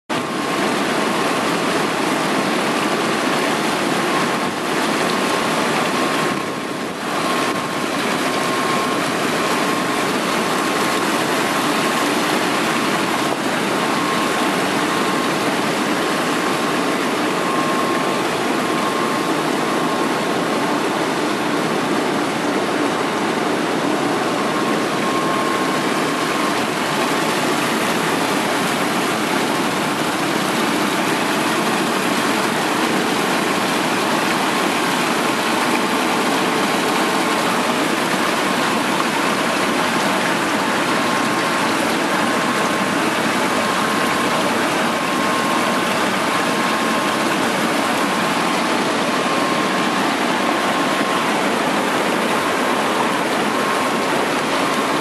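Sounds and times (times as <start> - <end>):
faint steady whine: 0.1 - 55.0
water gushing from a pipe: 0.1 - 55.0.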